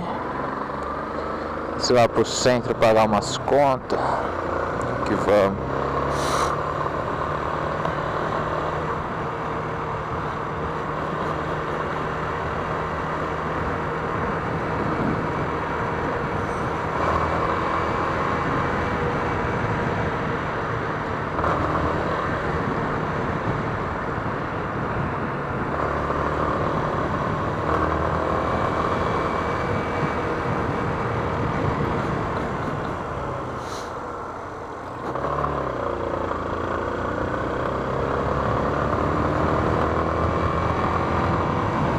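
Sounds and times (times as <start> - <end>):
road and wind noise: 0.0 - 41.9.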